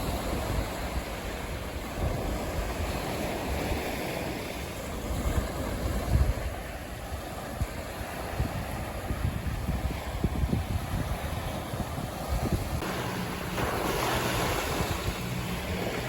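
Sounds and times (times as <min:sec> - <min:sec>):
surf rushing: 0:00.0 - 0:16.0
wind buffeting microphone: 0:00.0 - 0:16.0.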